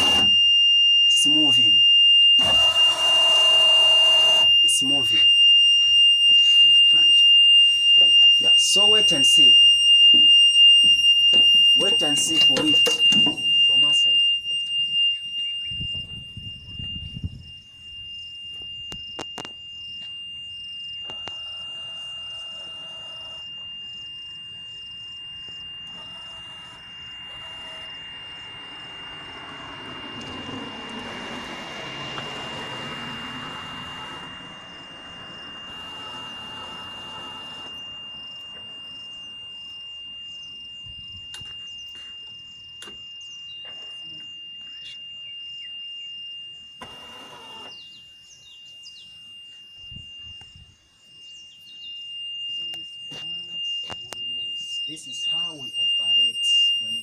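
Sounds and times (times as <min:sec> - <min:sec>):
electronic warning buzzer tone: 0:00.0 - 0:57.0.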